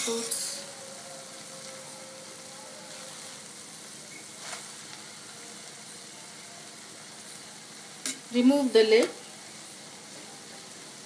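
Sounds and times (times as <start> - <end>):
rice sizzling in a pan: 0.0 - 11.0.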